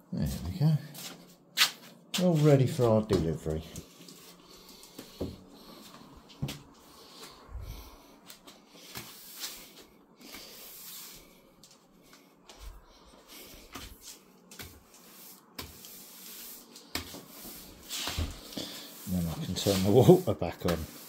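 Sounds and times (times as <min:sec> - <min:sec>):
broom sweeping floor: 0:00.2 - 0:21.0.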